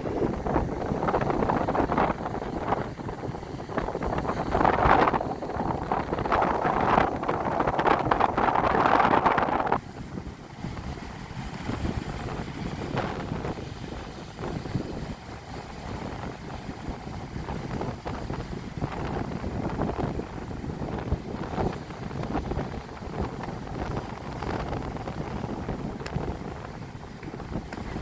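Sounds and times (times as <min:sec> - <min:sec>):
storm wind buffeting microphone: 0:00.0 - 0:28.0.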